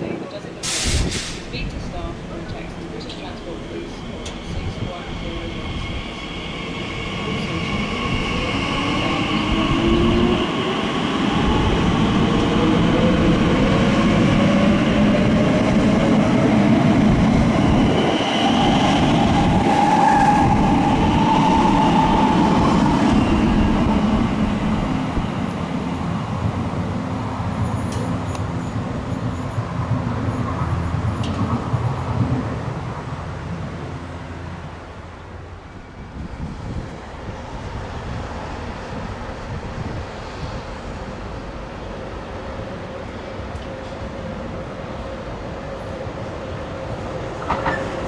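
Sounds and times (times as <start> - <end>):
wheels rumbling on rail: 0.1 - 48.0.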